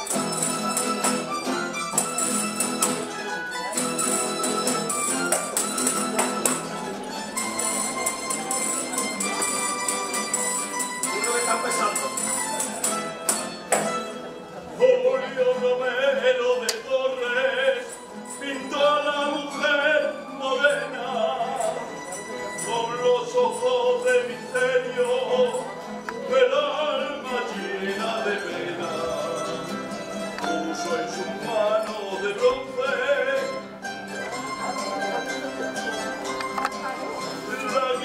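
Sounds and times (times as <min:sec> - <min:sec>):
guitars and bandurrias: 0:00.0 - 0:38.0.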